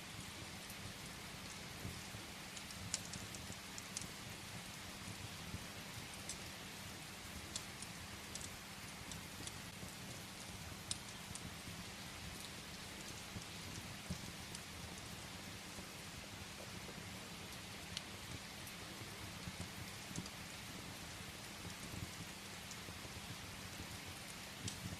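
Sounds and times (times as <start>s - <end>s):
rain on a window: 0.0s - 24.9s
wood fire crackling and popping: 0.0s - 24.9s.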